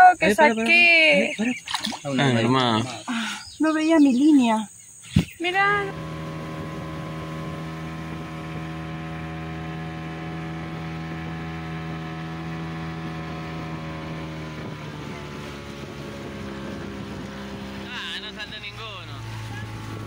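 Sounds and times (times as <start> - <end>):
outboard motor running: 0.0 - 3.6, 5.0 - 20.0
hull cutting through water: 1.4 - 3.0, 5.2 - 20.0.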